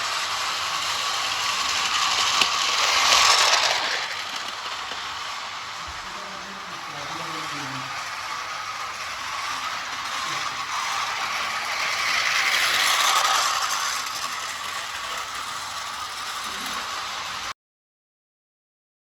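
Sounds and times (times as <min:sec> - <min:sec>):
toy train motor whirring: 0:00.0 - 0:17.6.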